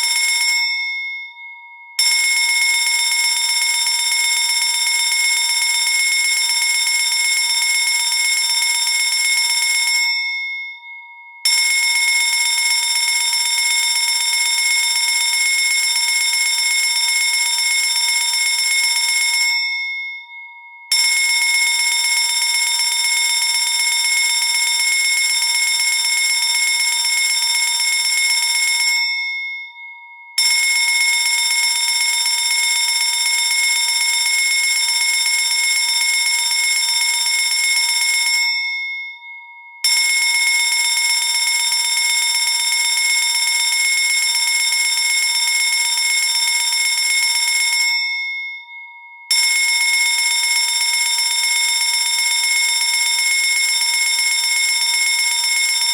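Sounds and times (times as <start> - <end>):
fire alarm bell ringing: 0.0 - 55.9.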